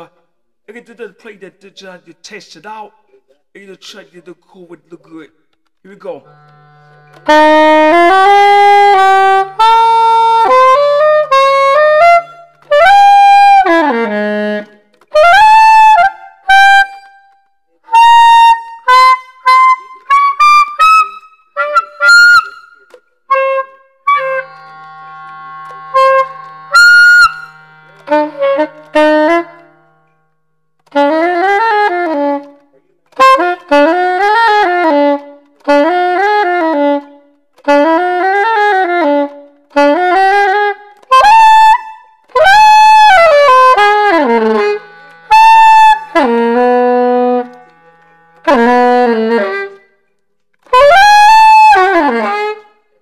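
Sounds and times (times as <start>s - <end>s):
soprano saxophone playing: 6.2s - 17.1s, 17.9s - 50.0s, 50.6s - 52.9s.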